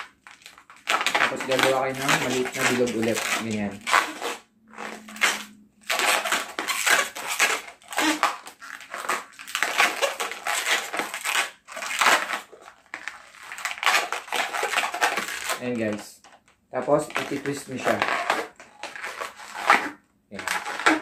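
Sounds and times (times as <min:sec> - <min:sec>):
balloon rubber squeaking: 0:00.0 - 0:21.0.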